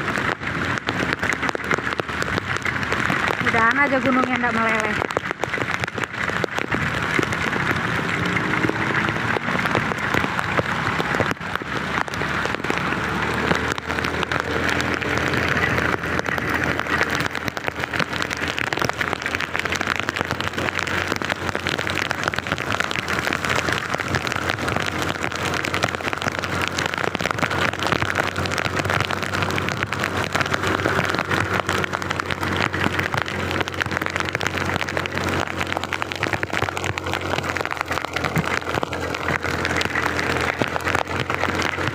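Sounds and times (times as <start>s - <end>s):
heavy rain patter: 0.0s - 41.9s.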